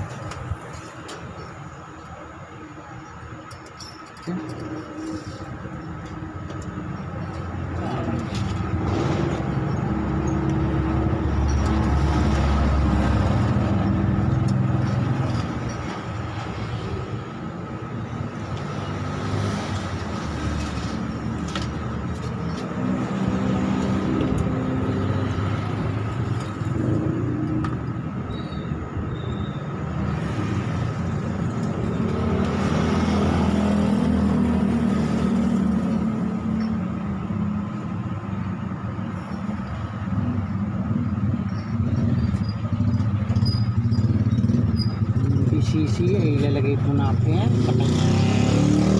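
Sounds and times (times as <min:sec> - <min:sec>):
vehicle engines rumbling past: 0:00.0 - 0:48.9.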